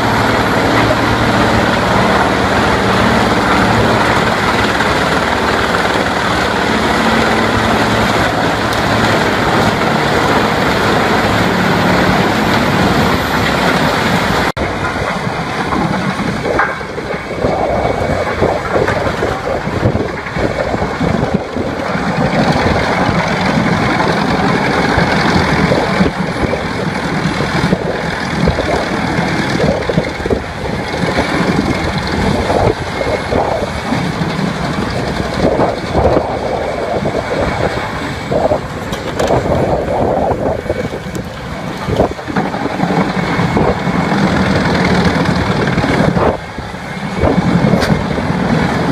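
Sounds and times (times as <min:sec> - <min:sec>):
heavy machinery running: 0:00.0 - 0:48.9.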